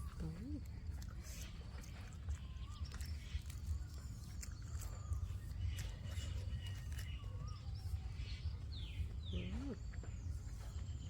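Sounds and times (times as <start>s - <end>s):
birds chirping and whistling: 1.2s - 11.0s.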